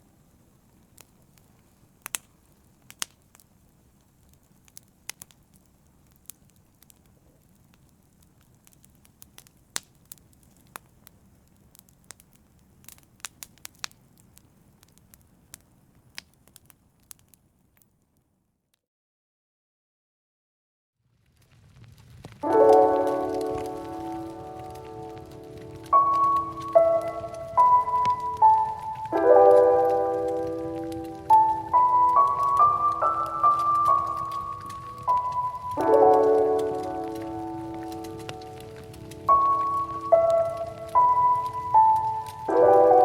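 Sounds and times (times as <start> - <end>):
low rumble of flames: 0.0 - 18.2, 21.0 - 43.0
wood fire crackling and popping: 0.0 - 18.4, 21.0 - 43.0.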